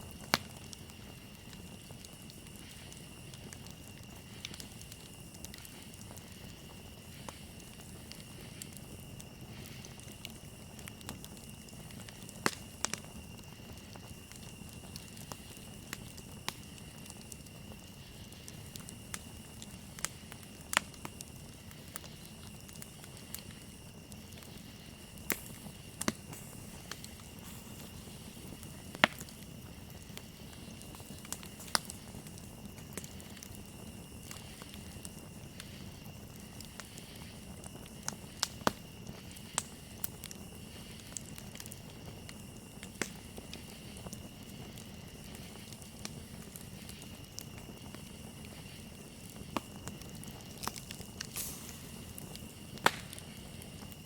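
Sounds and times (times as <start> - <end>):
campfire crackling and popping: 0.0 - 54.0
crickets chirring: 0.0 - 54.0.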